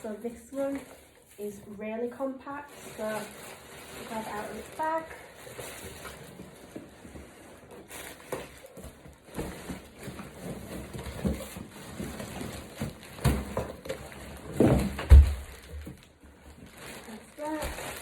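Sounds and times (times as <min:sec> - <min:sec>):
bag and packaging rustling: 0:00.0 - 0:18.0.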